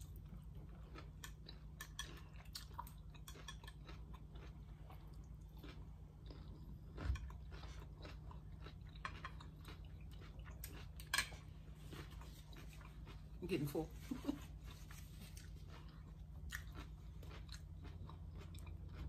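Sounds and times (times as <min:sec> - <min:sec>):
chewing food: 0:00.0 - 0:19.0
steady low hum: 0:00.0 - 0:19.0.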